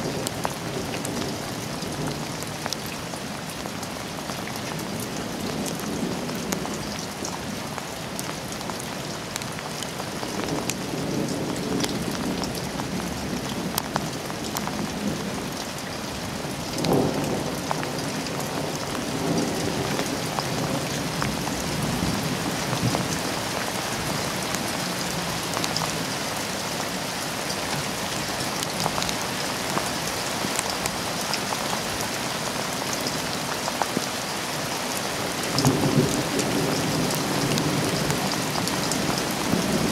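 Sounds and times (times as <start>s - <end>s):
heavy rain: 0.0s - 39.9s
raindrops ticking on surfaces: 0.0s - 39.9s.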